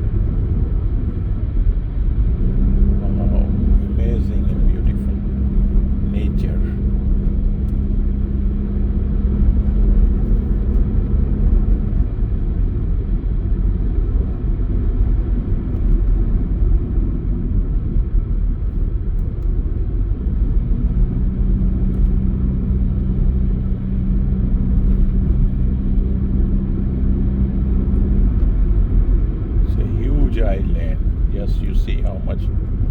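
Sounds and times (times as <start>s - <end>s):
car engine and road rumble: 0.0s - 32.9s.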